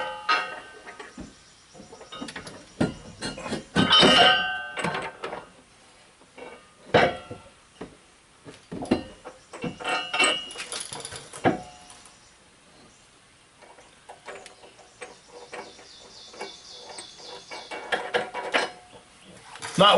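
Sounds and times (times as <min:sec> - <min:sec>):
metal hitch clanking and scraping: 0:00.0 - 0:05.6, 0:06.3 - 0:07.5, 0:08.5 - 0:12.1, 0:13.6 - 0:19.9.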